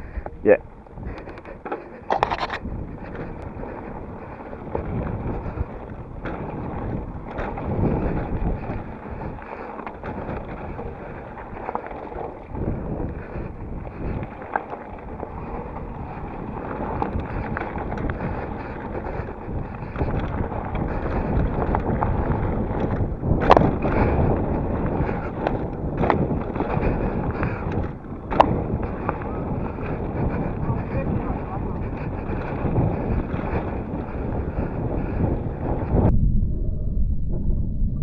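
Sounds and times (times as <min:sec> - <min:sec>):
tyres rolling over gravel: 0:00.0 - 0:36.0
bike knocks and rattles: 0:00.0 - 0:36.1
wind rushing over microphone: 0:00.0 - 0:38.0.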